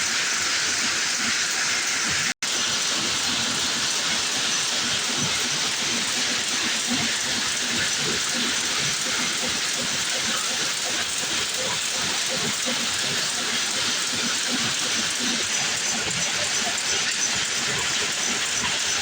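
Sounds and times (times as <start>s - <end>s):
weaving loom clattering: 2.5s - 19.0s.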